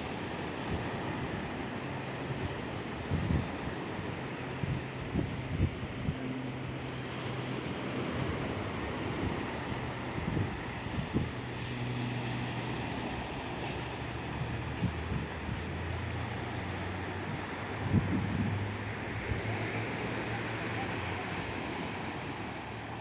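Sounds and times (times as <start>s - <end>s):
sea surf washing onto beach: 0.0s - 23.0s
wind buffeting microphone: 0.0s - 23.0s.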